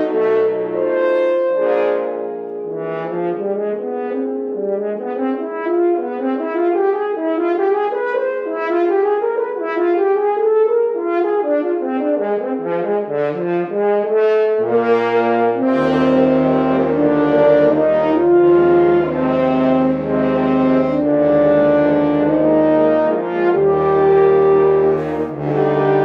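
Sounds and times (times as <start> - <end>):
instrumental ensemble music: 0.0 - 26.0.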